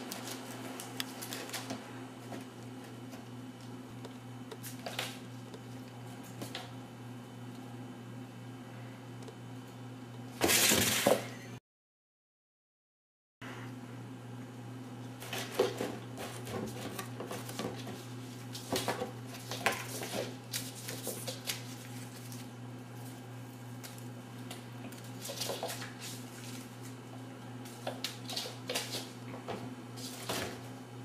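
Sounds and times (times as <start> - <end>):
steady low hum: 0.0 - 10.4, 13.4 - 31.0.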